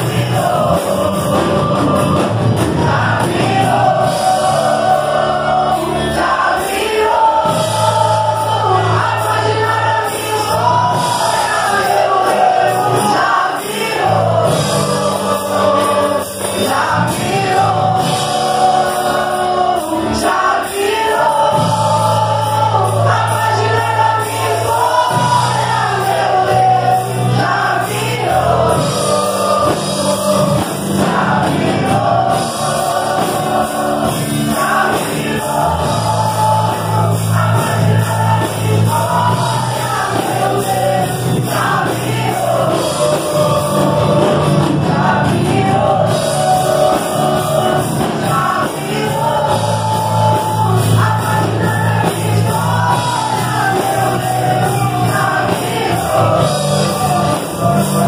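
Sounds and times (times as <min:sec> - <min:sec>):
bass accompaniment: 0:00.0 - 0:58.0
choir singing gospel: 0:00.0 - 0:58.0.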